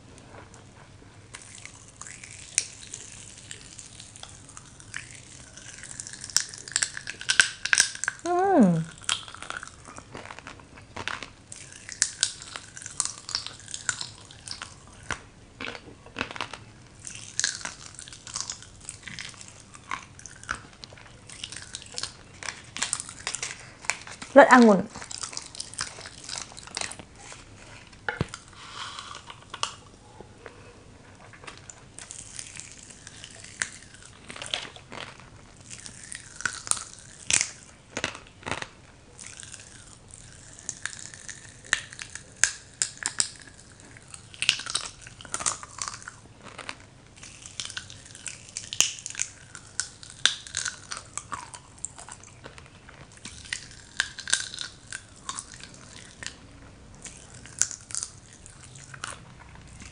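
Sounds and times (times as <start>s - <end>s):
chewing and mouth sounds: 0.3s - 59.9s
popping candy crackling: 1.3s - 29.9s, 31.4s - 59.9s.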